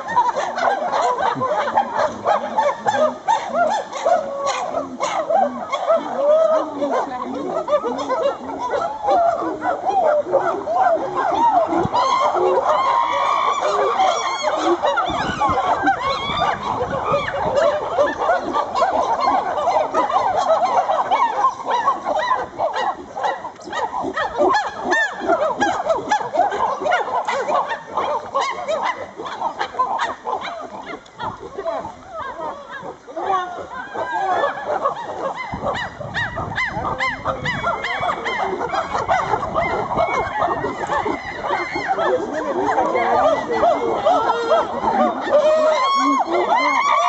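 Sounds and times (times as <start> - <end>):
chimpanzees hooting and barking: 0.0 - 47.0.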